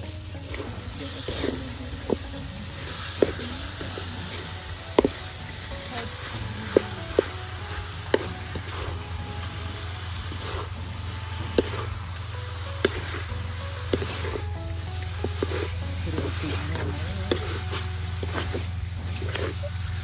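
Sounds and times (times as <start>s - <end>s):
chili paste sizzling in wok: 0.0s - 20.0s
spatula scraping wok: 0.0s - 20.0s.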